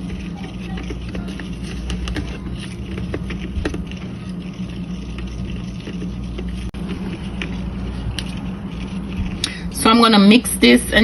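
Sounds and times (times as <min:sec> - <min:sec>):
steady low hum: 0:00.0 - 0:11.0
utensil scraping a bowl: 0:00.0 - 0:11.0.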